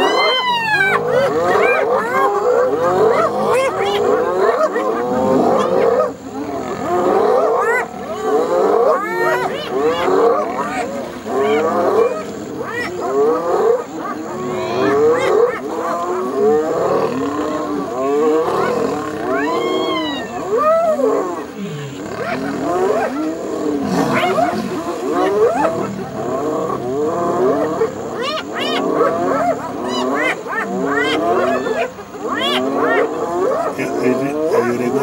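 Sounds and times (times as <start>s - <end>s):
hyenas and lions calling: 0.0s - 35.0s.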